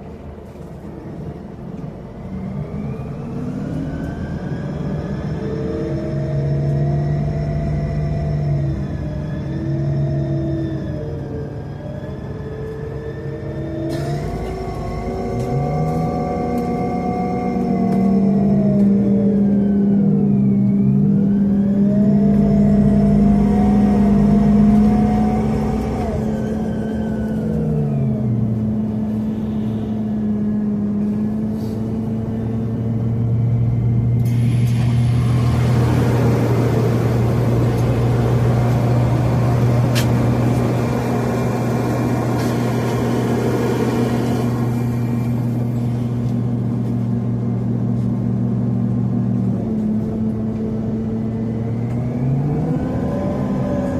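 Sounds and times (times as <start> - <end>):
bus engine whine: 0.0 - 53.9
rushing road noise: 0.0 - 53.9.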